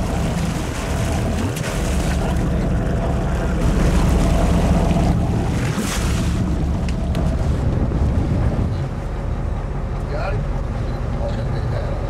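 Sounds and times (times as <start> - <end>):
wind buffeting microphone: 0.0 - 11.0
boat engine rumbling: 0.0 - 12.0
water washing against hull: 0.0 - 12.0.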